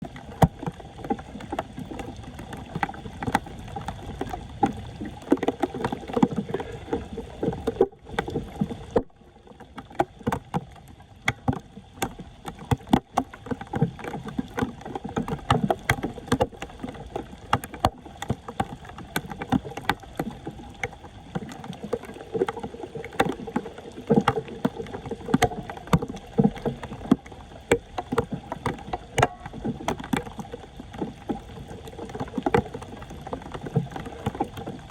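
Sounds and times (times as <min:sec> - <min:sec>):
floodwater splashing and sloshing: 0:00.0 - 0:34.9.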